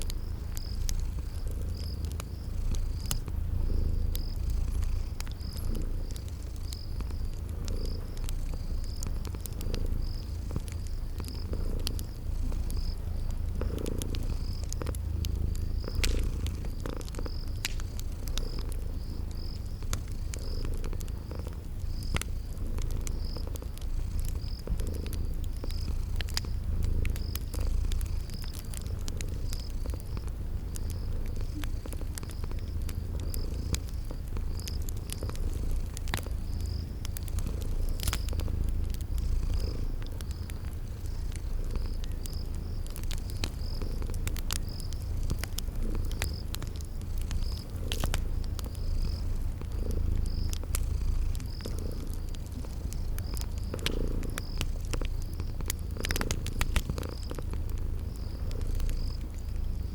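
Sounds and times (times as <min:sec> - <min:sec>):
cat purring: 0:00.0 - 0:59.9
crickets chirping: 0:00.0 - 0:59.9
wood fire crackling: 0:00.0 - 0:59.9.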